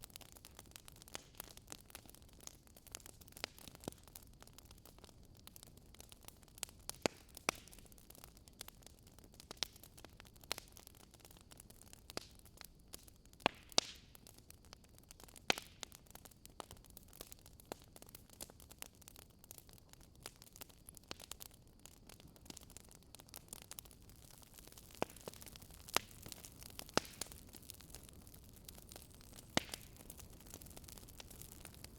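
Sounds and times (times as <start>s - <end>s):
campfire crackling and popping: 0.0s - 31.9s
soft steady hiss: 0.0s - 31.9s.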